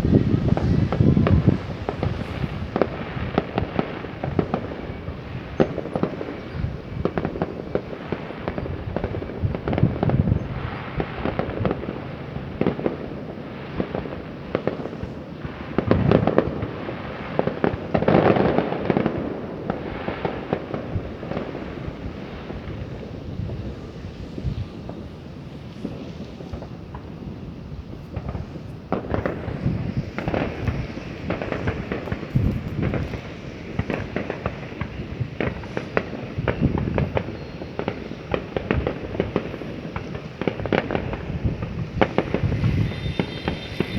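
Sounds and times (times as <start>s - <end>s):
fireworks crackling and booming: 0.0s - 43.9s.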